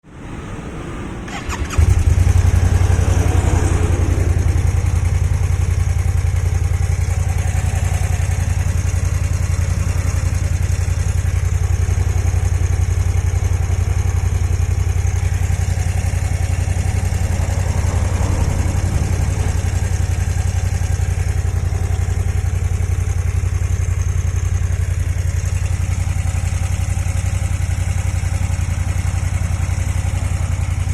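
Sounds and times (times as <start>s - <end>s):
scooter engine starting and idling: 0.8s - 30.9s.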